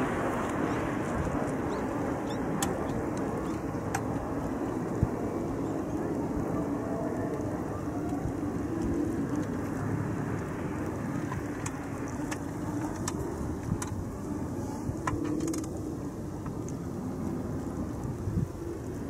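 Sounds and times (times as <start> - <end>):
distant engine rumble: 0.0 - 19.0.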